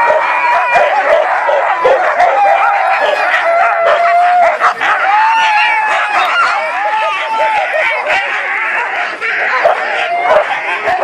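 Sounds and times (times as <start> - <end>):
dog howling: 0.0 - 11.0
dogs barking and yelping: 0.0 - 11.0.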